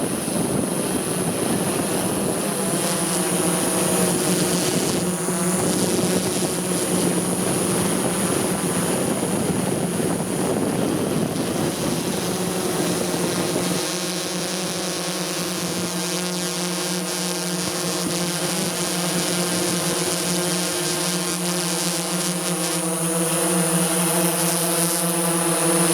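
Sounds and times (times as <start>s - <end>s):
drone propellers buzzing: 0.0s - 25.9s.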